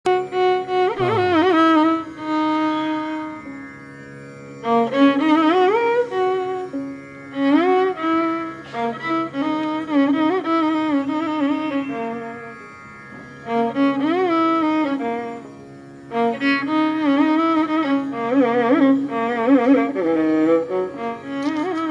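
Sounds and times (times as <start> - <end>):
held drone note: 0.1 - 21.9.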